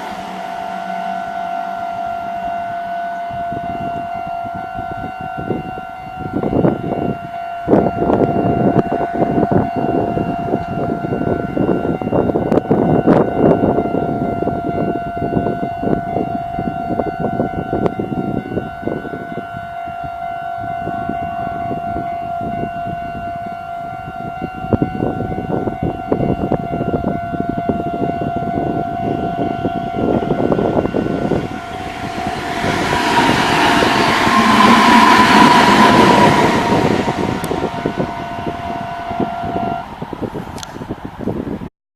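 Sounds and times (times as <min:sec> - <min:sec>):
level crossing warning bell ringing: 0:00.0 - 0:41.5
electric train rumbling and clattering: 0:00.0 - 0:41.7.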